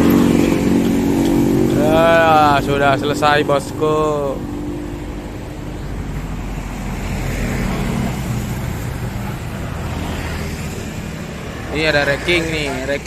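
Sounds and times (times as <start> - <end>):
two-stroke motorcycle engine running: 0.0 - 13.0.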